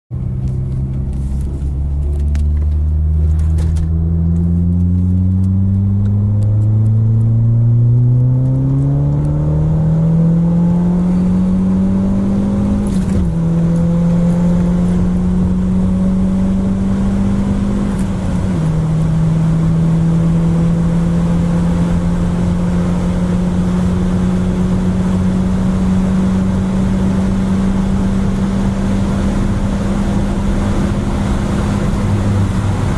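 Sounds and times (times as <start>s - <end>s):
road and wind noise: 0.1s - 32.9s
turbocharged car engine accelerating: 0.2s - 32.9s.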